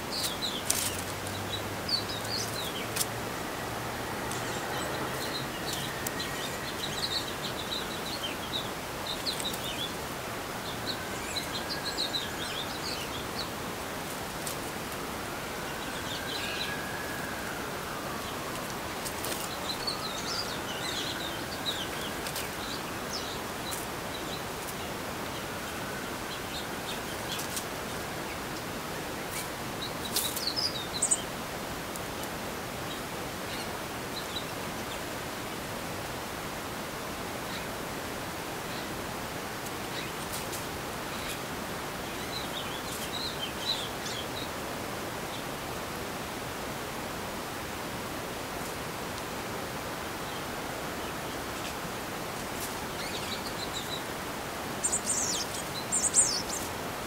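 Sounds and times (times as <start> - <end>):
songbirds chirping: 0.0 - 57.0
steady outdoor hiss: 0.0 - 57.0.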